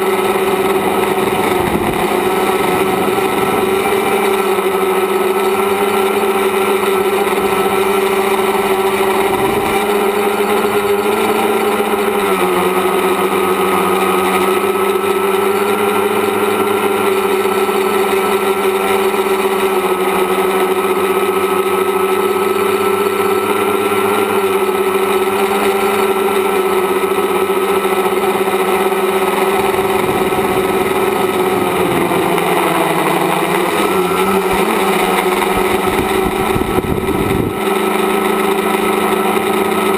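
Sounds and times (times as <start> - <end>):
drone motors and propellers buzzing: 0.0 - 39.9.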